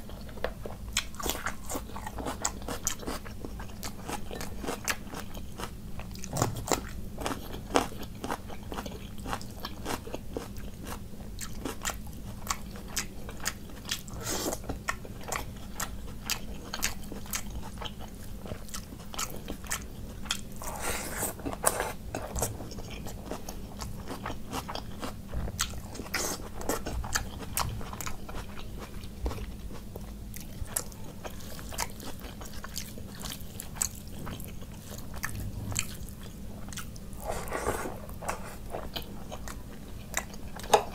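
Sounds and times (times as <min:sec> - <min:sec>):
man chewing and crunching food: 0:00.0 - 0:40.9.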